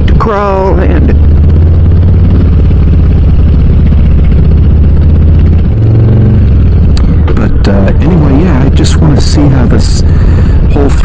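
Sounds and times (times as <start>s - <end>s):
motorcycle exhaust note: 0.0s - 10.9s.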